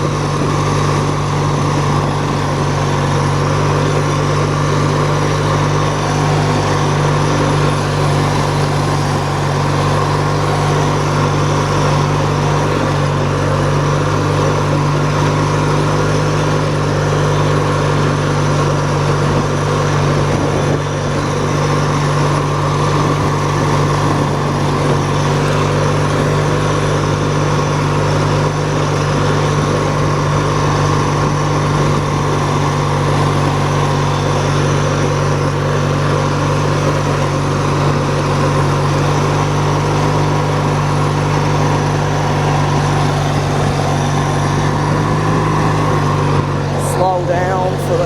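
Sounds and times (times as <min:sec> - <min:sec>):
riding lawn mower engine running: 0:00.0 - 0:48.0.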